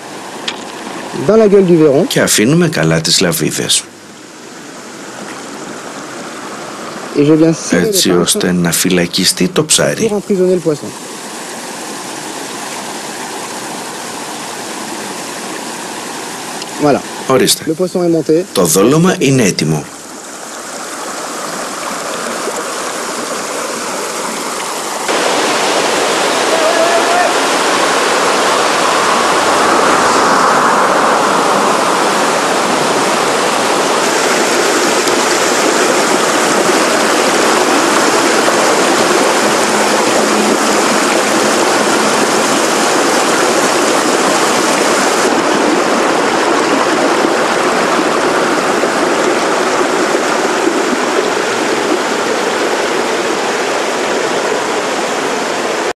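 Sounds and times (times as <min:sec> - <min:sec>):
river water running over stones: 0:00.0 - 0:55.9.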